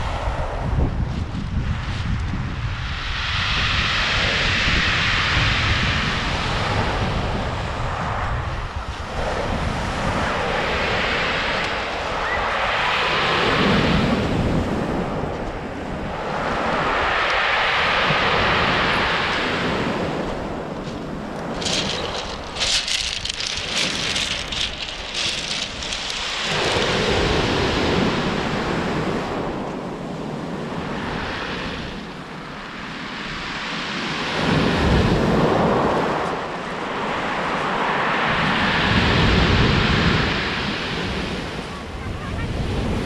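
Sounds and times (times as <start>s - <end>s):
wind buffeting microphone: 0.0s - 43.0s
waves washing over pebble beach: 3.3s - 15.3s, 16.1s - 41.7s.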